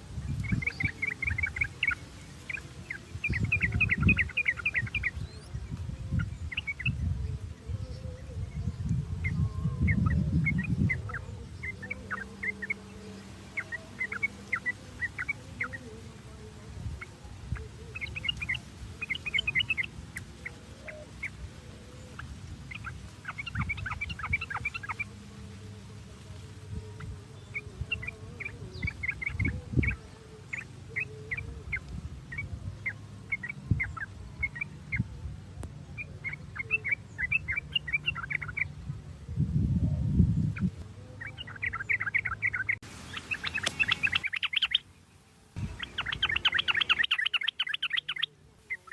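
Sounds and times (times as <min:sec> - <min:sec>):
bird chirping song: 0:00.0 - 0:48.9.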